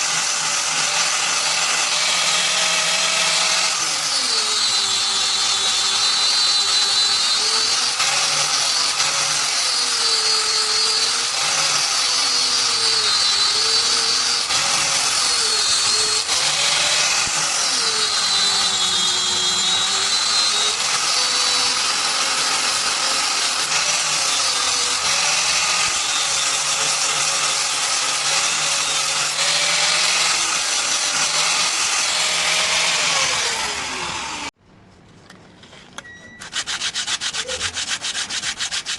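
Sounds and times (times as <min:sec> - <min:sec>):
power tool motor under load: 0:00.0 - 0:34.6.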